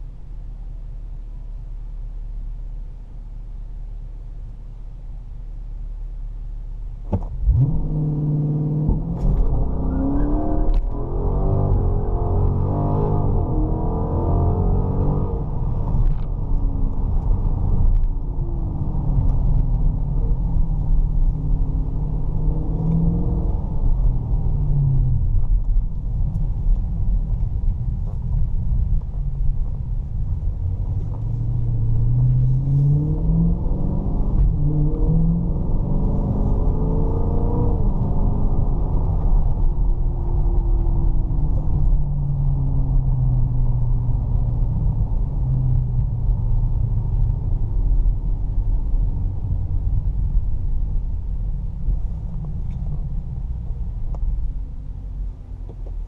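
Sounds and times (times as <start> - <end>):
road noise rumble: 0.0 - 56.0
car engine accelerating: 6.9 - 56.0.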